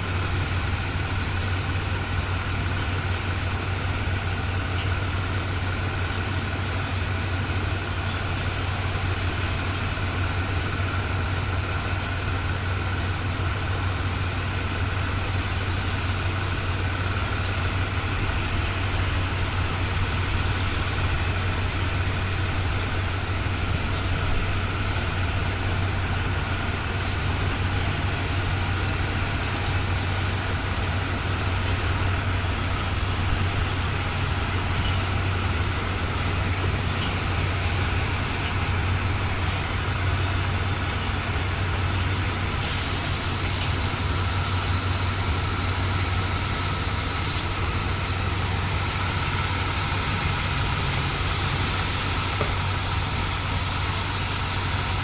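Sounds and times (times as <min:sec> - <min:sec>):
diesel locomotive idling: 0:00.0 - 0:55.0.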